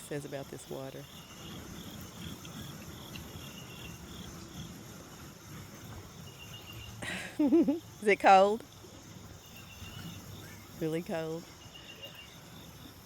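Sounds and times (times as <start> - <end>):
insects chirping in pulses: 0.0 - 13.0.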